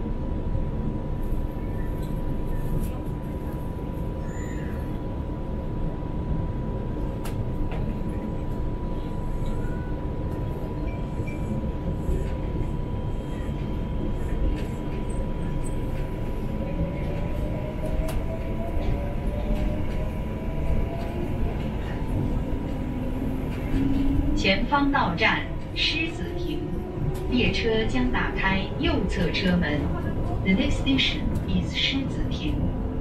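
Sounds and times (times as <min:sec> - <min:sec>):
low train rumble: 0:00.0 - 0:33.0.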